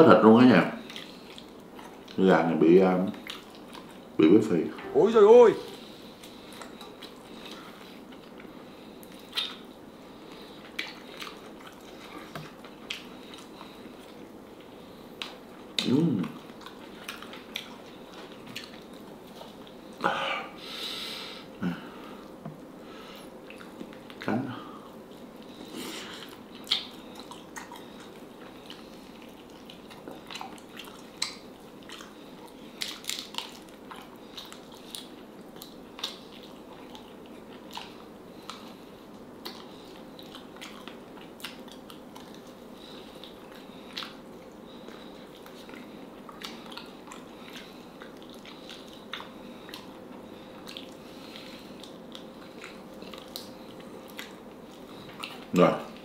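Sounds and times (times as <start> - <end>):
chewing and biting: 0.8 - 2.2, 3.1 - 4.1, 6.1 - 20.0, 23.3 - 56.0.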